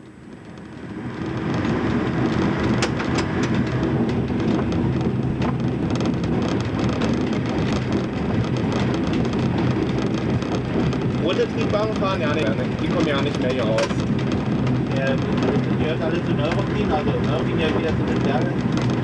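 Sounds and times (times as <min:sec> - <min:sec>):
diesel railcar engine: 0:00.0 - 0:19.0
wheels clacking over rail joints: 0:00.0 - 0:19.0.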